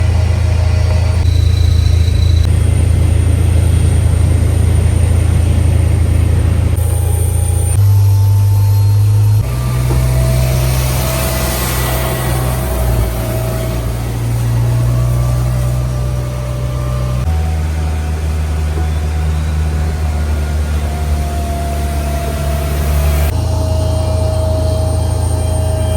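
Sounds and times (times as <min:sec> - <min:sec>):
heavy engines rumbling: 0:00.0 - 0:25.9.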